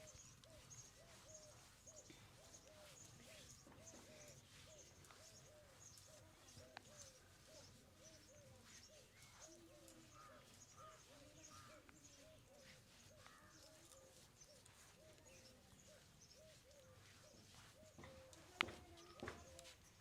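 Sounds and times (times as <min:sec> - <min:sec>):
faint repeated bird calls: 0:00.0 - 0:20.0.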